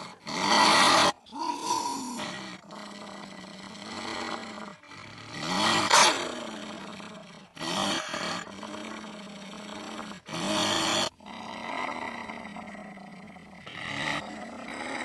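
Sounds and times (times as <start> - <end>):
creature growling: 0.0 - 15.0.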